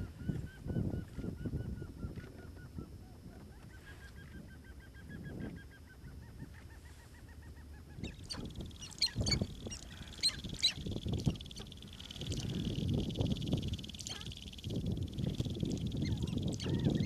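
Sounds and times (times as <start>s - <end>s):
grouse clucking and cackling: 0.0s - 17.0s.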